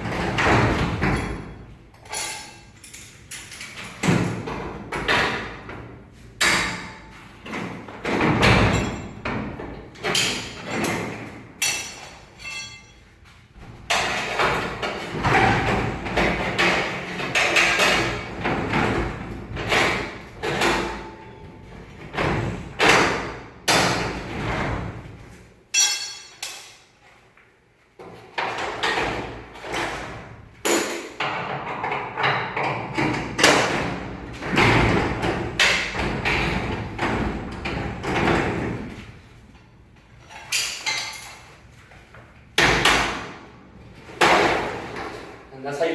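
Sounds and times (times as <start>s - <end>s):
metal clanks and knocks: 0.0s - 26.9s, 28.0s - 39.1s, 40.2s - 45.5s.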